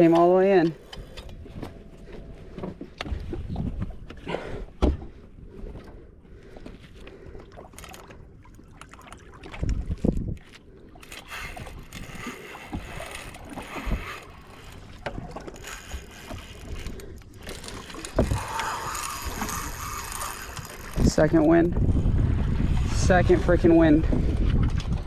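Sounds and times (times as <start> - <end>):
water against boat hull: 0.0 - 25.0.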